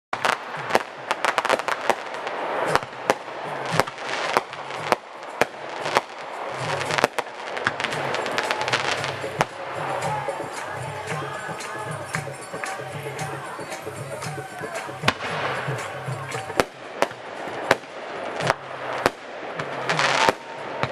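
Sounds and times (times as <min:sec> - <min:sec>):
fireworks crackling and banging: 0:00.1 - 0:20.9.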